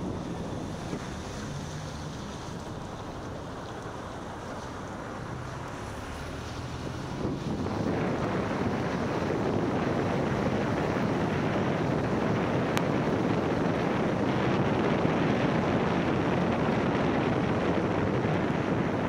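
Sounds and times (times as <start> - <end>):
car tyres on wet cobblestones: 0.0 - 19.0
wind noise: 0.0 - 19.0.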